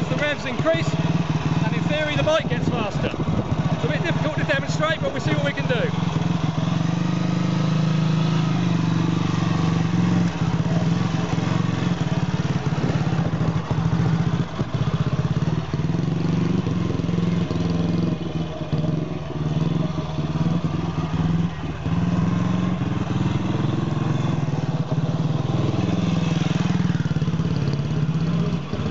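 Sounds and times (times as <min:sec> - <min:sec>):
single-cylinder motorcycle engine: 0:00.0 - 0:28.9.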